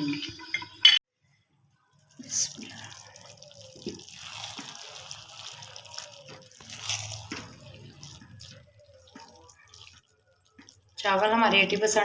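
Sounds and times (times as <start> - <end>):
pot of rice bubbling: 1.2 - 12.0.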